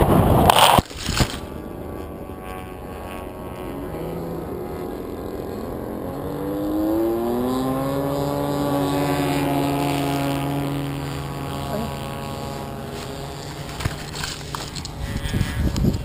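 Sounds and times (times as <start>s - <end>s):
electric motor and propeller hum: 0.0s - 16.0s.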